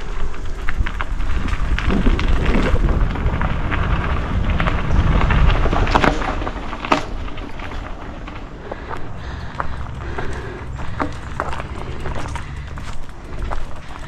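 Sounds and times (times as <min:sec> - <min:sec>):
bike rattles and clicks: 0:00.0 - 0:14.0
tyres rolling over dirt and rocks: 0:00.0 - 0:14.0
wind rumble on microphone: 0:00.0 - 0:14.0.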